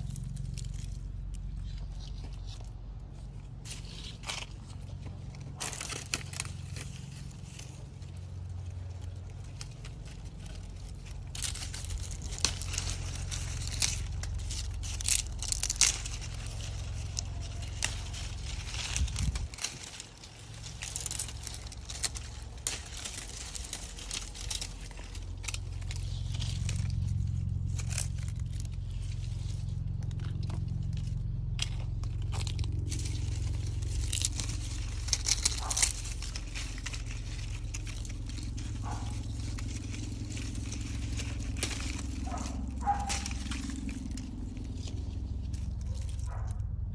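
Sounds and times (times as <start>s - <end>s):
snaps and crackles: 0.0s - 46.7s
low rumble: 0.0s - 46.9s
netting and leaves rustling: 0.0s - 46.9s.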